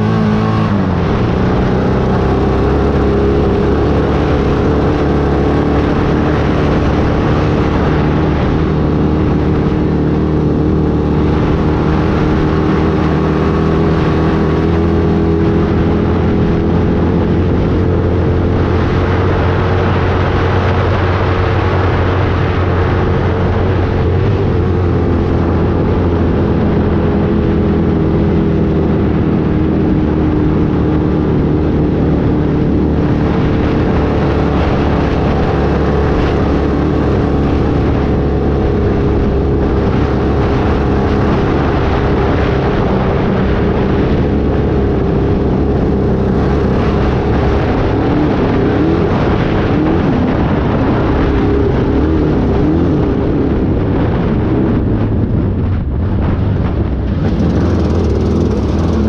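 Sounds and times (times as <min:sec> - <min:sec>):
race vehicle engine running: 0:00.0 - 0:59.0
rumble and rattle from rough ground: 0:00.0 - 0:59.0.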